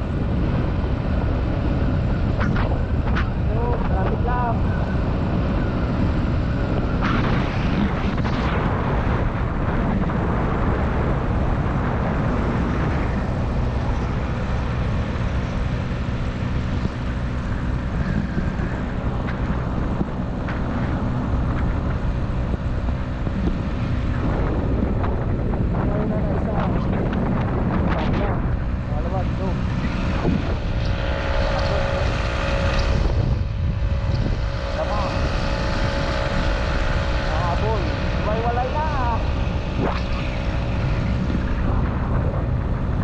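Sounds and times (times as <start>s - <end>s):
motorcycle engine cruising: 0.0s - 43.0s
wind rumble on microphone: 0.0s - 43.0s.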